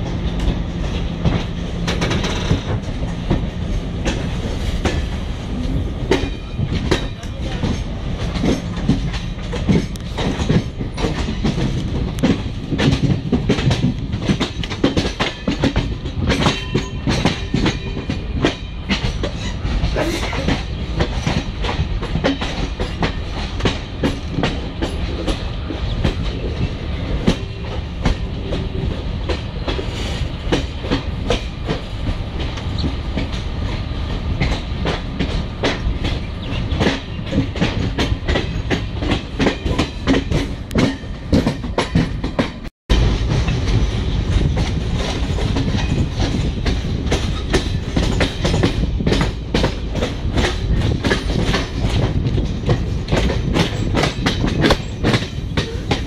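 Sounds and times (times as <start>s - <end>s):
train rumble: 0.0s - 56.0s
train wheels clattering: 0.0s - 56.0s.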